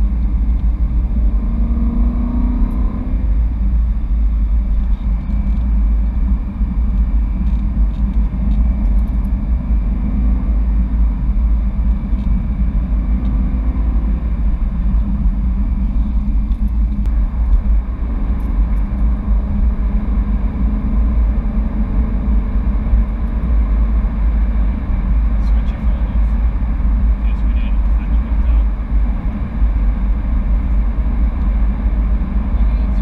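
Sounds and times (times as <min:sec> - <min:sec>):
car engine running: 0:00.0 - 0:33.0
road rumble in car cabin: 0:00.0 - 0:33.0.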